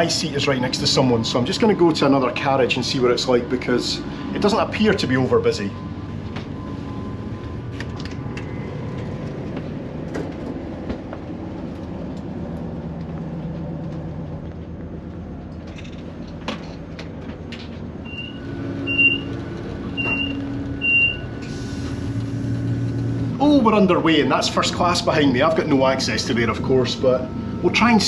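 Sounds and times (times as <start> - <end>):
train engine and ventilation hum: 0.0 - 28.0.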